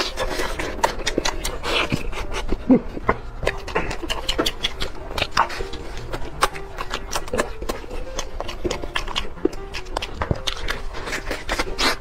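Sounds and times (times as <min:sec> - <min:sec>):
wet chewing and lip smacking: 0:00.0 - 0:12.0.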